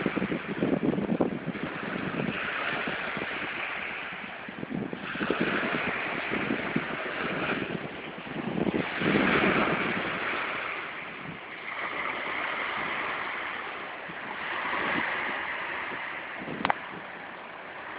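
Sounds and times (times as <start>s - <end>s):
sea waves breaking: 0.0s - 17.9s.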